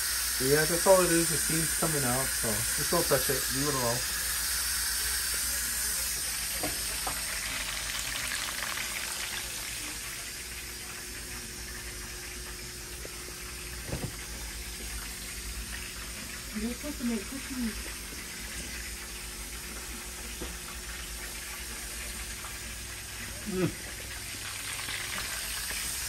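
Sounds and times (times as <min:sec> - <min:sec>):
pressure cooker steam hissing: 0:00.0 - 0:17.8, 0:21.4 - 0:26.0.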